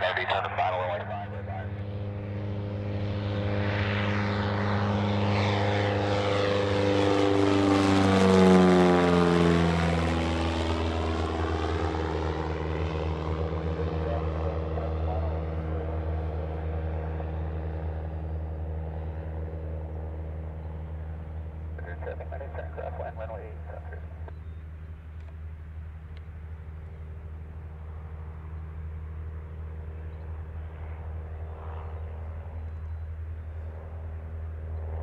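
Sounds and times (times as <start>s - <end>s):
propeller plane fly-by: 0.0s - 35.0s.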